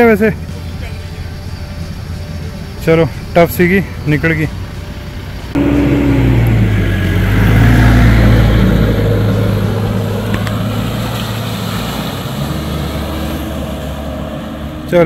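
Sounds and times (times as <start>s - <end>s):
suv engine pulling hard: 0.0s - 15.0s.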